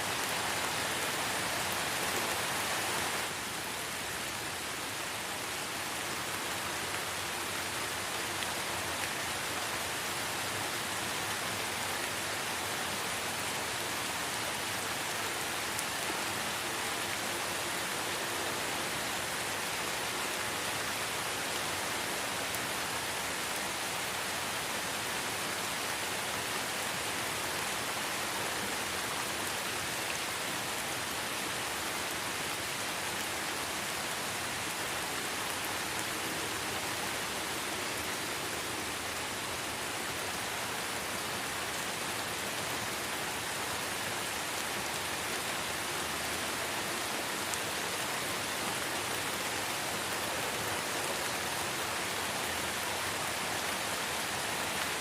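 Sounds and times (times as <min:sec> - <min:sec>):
rain on leaves: 0:00.0 - 0:55.0.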